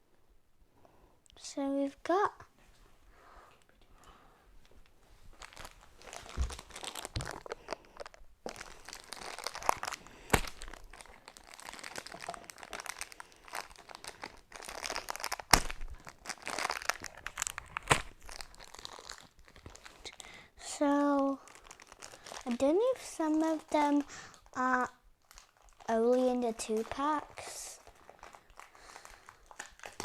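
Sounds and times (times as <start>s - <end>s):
plastic packaging crinkling: 5.3s - 30.0s.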